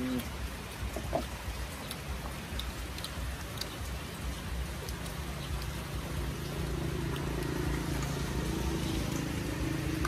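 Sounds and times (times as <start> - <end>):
engine humming: 0.0 - 10.0
light rain pattering: 0.0 - 10.0.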